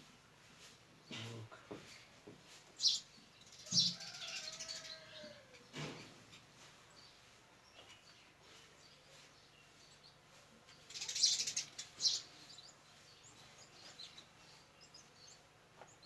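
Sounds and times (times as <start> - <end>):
small birds chirping: 1.0 - 16.0.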